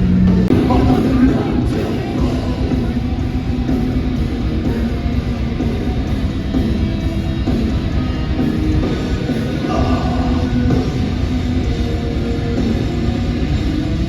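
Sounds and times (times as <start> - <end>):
heavy band playing loud: 0.0 - 14.0.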